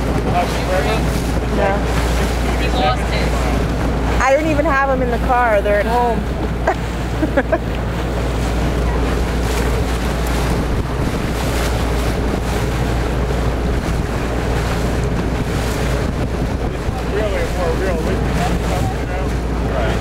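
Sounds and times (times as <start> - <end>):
steady low rumble: 0.0 - 20.0
water rushing past hull: 0.0 - 20.0
wind buffeting microphone: 0.0 - 20.0.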